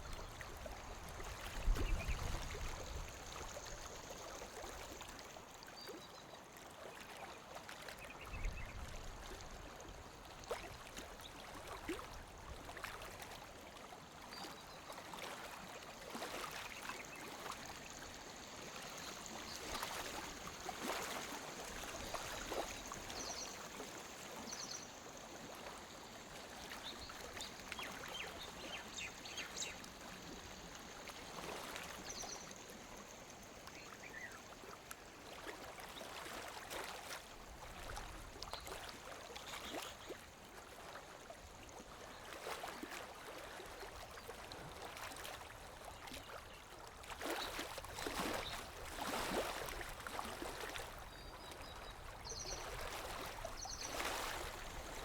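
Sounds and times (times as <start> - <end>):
small waves lapping on shore: 0.0 - 55.0.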